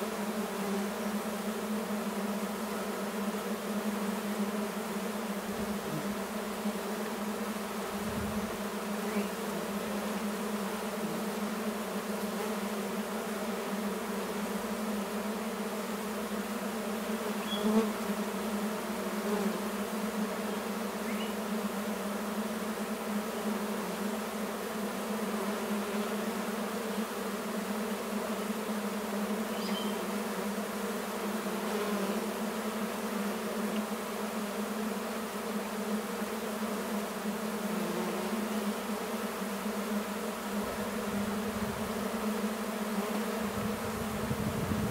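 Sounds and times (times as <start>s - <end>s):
bees buzzing: 0.0s - 44.9s.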